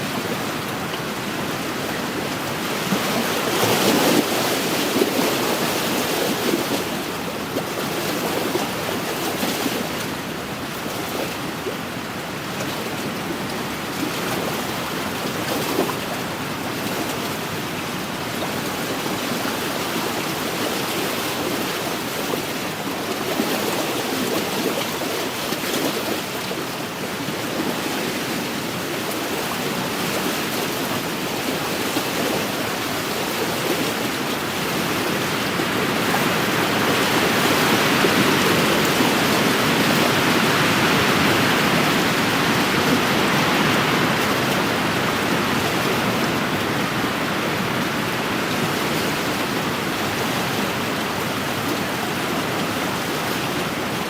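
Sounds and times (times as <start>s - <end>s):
waves washing against shore: 0.0s - 54.0s
wind: 0.0s - 54.0s.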